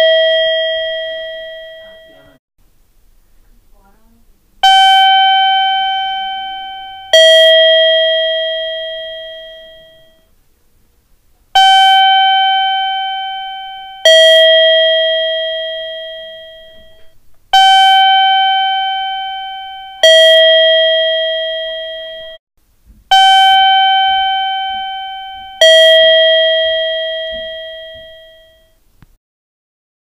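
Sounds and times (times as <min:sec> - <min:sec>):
two-tone electronic chime: 0:00.0 - 0:02.4, 0:04.6 - 0:10.3, 0:11.6 - 0:22.4, 0:23.1 - 0:28.8.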